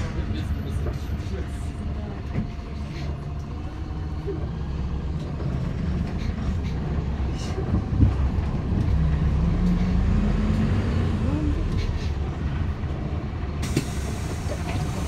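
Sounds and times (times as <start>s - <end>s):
bus engine running: 0.0s - 15.0s
road rumble: 0.0s - 15.0s.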